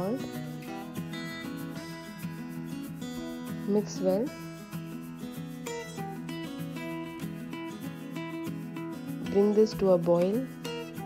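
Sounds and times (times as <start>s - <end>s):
instrumental music with plucked notes: 0.0s - 11.0s.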